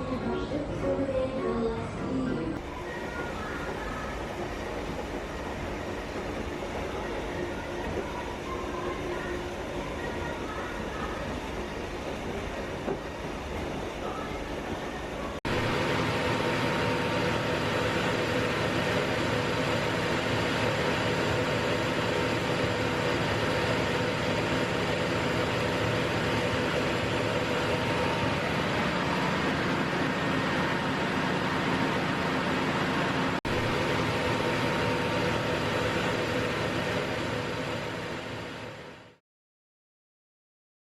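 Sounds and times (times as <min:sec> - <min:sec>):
washing machine rumble: 0:02.6 - 0:39.2.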